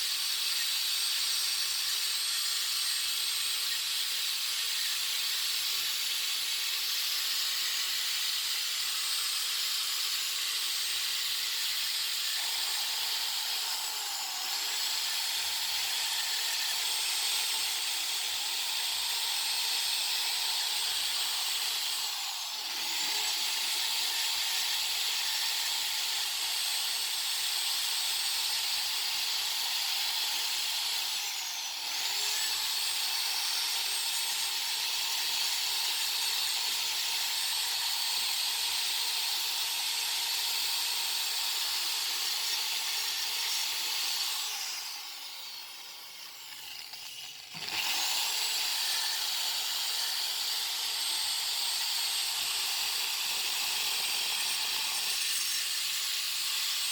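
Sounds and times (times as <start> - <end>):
rotary tool high whine: 0.0 - 56.9.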